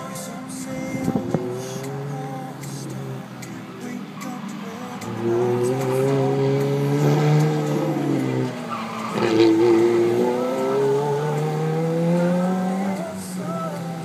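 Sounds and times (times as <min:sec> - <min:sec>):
sports car engine revving: 0:00.7 - 0:14.0
tyres squealing: 0:01.5 - 0:14.0.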